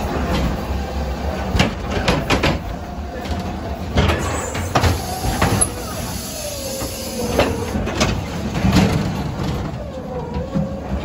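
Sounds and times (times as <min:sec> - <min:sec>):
ride car rattling on track: 0:00.0 - 0:11.0.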